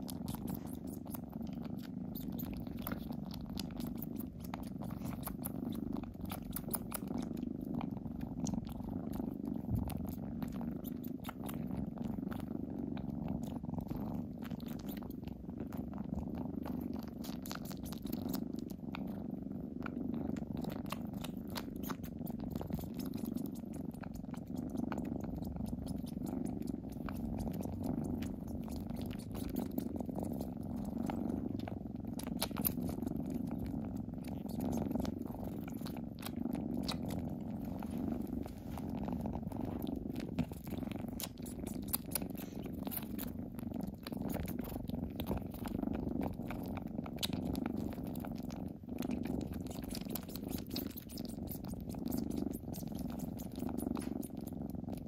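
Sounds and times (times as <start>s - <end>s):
kittens purring: 0.0s - 55.0s.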